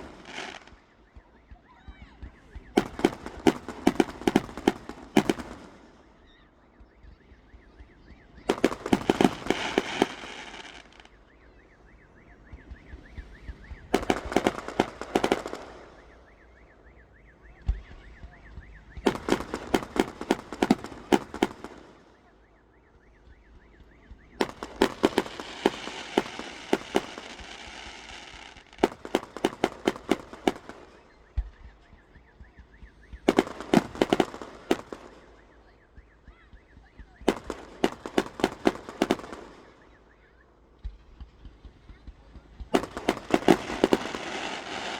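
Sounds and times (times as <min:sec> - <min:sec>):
fireworks cracks and bangs: 0:00.0 - 0:11.2, 0:11.8 - 0:40.0, 0:40.7 - 0:44.9.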